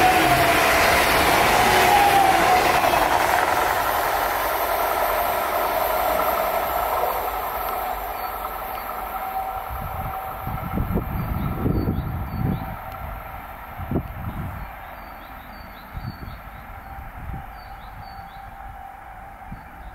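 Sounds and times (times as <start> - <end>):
train wheels rushing on rails: 0.0 - 19.9.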